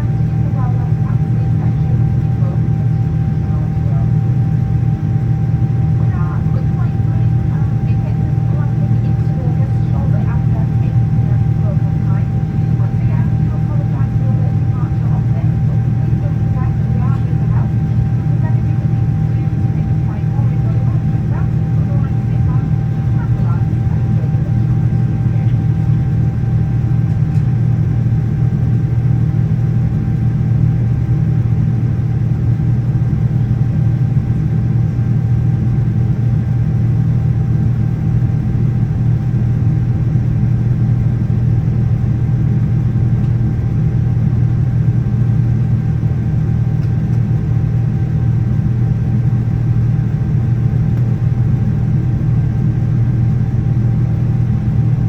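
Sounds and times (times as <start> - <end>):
aircraft cabin engine drone: 0.0 - 55.0
faint steady whine: 0.0 - 55.0.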